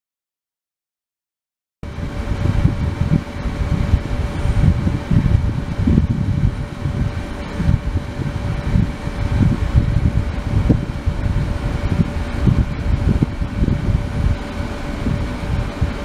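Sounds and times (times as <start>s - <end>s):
low churning rumble: 1.8s - 16.0s
ultrasonic cleaner humming: 1.8s - 16.0s.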